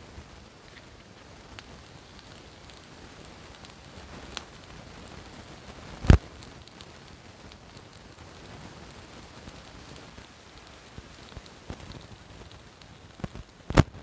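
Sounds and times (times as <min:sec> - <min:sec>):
light rain pattering: 0:00.0 - 0:14.0.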